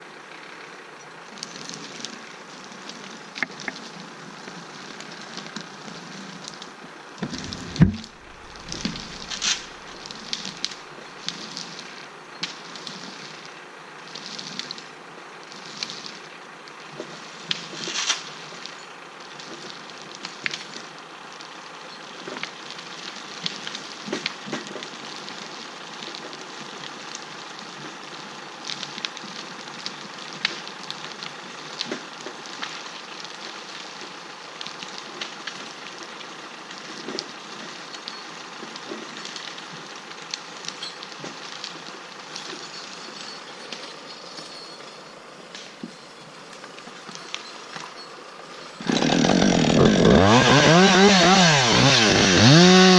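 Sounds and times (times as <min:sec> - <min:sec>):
steady hiss: 0:00.0 - 0:49.1
small cracks and clicks: 0:01.4 - 0:14.9, 0:15.5 - 0:44.6, 0:45.5 - 0:48.0.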